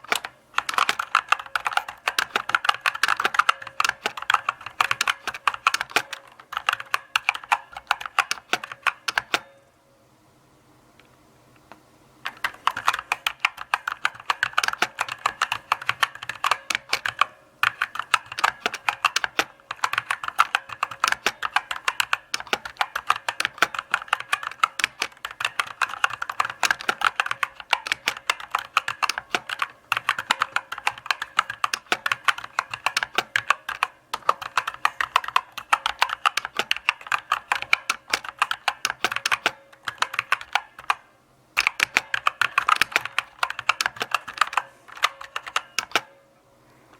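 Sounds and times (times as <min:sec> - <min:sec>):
mechanical keyboard typing: 0:00.0 - 0:09.5, 0:12.2 - 0:46.2.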